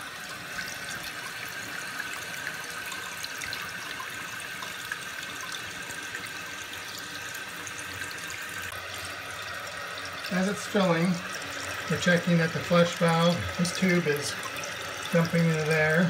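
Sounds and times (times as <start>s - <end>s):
faint whine in water flow: 0.0s - 16.0s
toilet tank refilling hiss: 0.0s - 16.0s.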